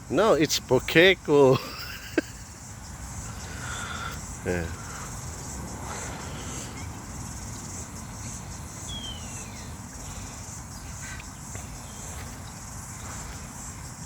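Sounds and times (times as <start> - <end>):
insects shrilling: 0.0 - 14.0.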